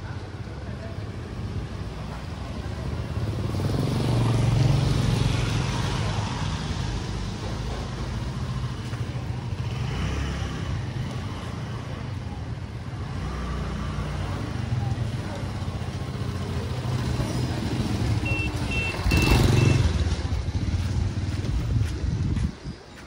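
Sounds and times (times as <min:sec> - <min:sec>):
street noise: 0:00.0 - 0:23.0
motor scooters passing: 0:00.1 - 0:22.4.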